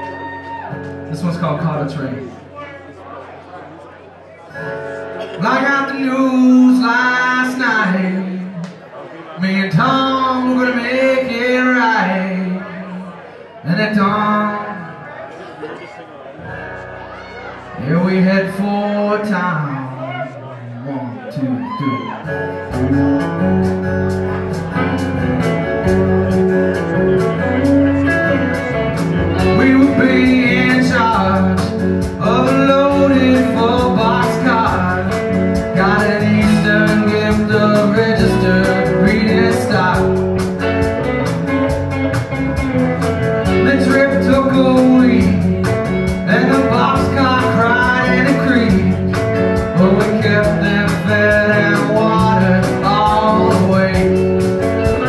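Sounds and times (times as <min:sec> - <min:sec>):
country-rock band playing: 0:00.0 - 0:55.0.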